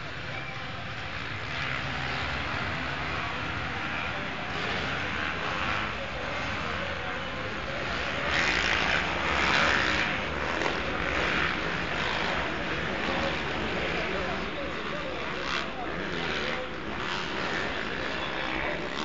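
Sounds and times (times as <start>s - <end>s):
motocross bikes racing: 0.0s - 19.0s.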